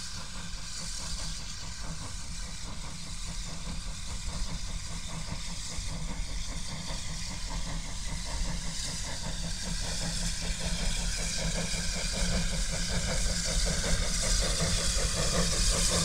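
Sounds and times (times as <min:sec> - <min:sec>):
steam hiss: 0:00.0 - 0:16.0
steam locomotive chuffing: 0:00.0 - 0:16.0.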